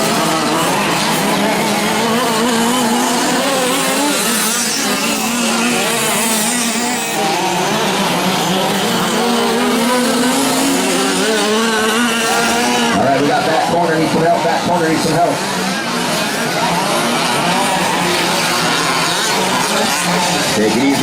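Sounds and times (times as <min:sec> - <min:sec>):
small two-stroke engines revving: 0:00.0 - 0:21.0.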